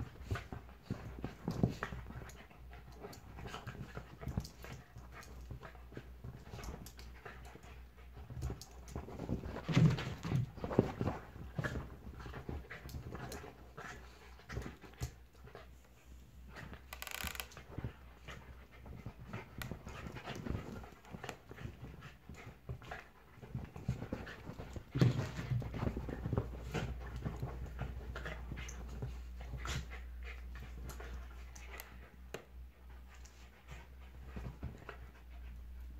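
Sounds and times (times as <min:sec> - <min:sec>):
dogs panting: 0:00.0 - 0:35.9
paws scuffling on cushions: 0:00.0 - 0:35.9.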